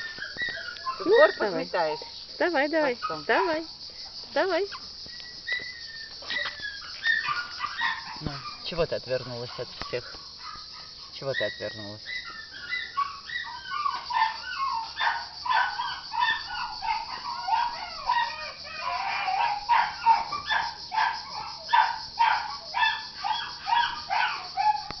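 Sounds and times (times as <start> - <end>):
dogs barking and yipping: 0.0 - 25.0.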